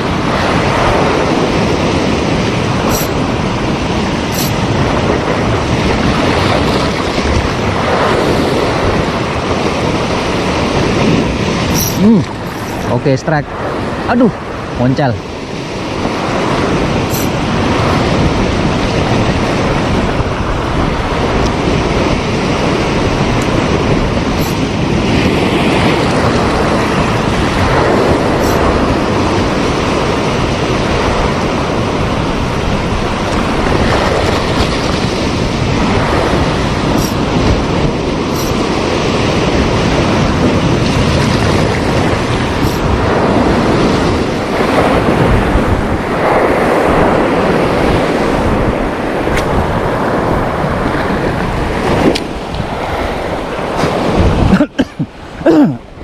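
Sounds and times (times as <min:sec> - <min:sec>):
sea waves washing onto shore: 0:00.0 - 0:56.0
wind rumbling on microphone: 0:00.0 - 0:56.0.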